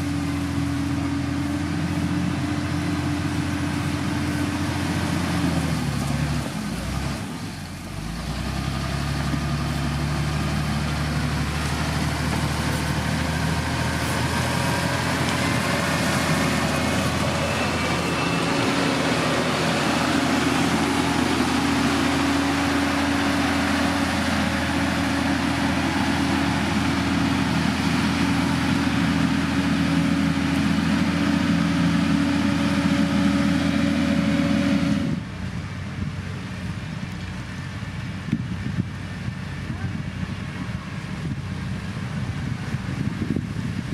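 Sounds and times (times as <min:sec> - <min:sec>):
diesel engine of heavy machinery: 0:00.0 - 0:43.9.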